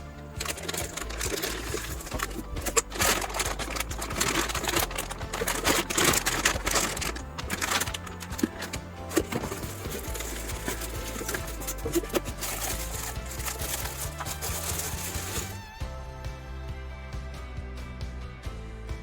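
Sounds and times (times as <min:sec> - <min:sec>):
rapid clicks and rattles: 0:00.0 - 0:15.7
quiet background music: 0:00.0 - 0:19.0
packaging crinkling: 0:00.4 - 0:15.6.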